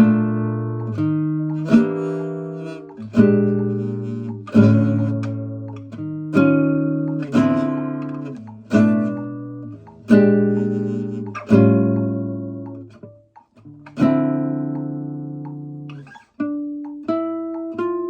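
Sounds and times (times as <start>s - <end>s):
acoustic guitar chords strummed: 0.0s - 16.0s.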